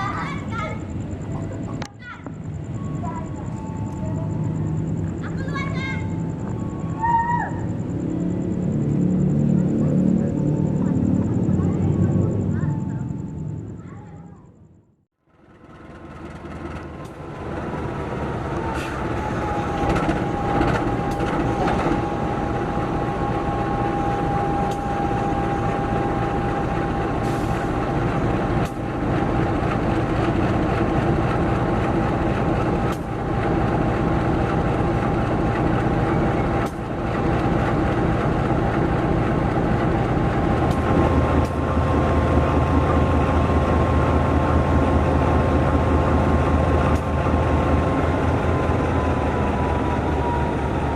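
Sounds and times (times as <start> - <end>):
train engine and wheel rumble: 0.0 - 50.9
train whine: 0.0 - 50.9.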